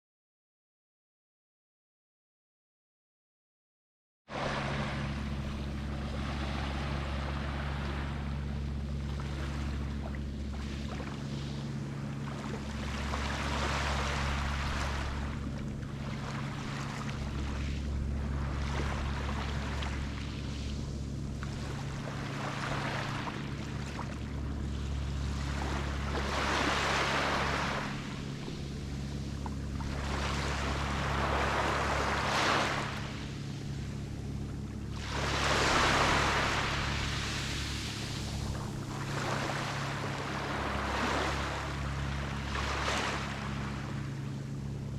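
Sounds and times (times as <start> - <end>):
sea waves washing onto beach: 4.3 - 34.0, 34.7 - 44.5
steady low hum: 4.3 - 44.9.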